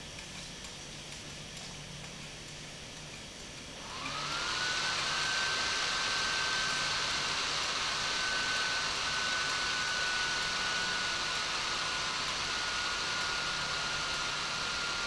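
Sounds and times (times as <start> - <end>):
laptop cooling fan whine: 0.0 - 15.0.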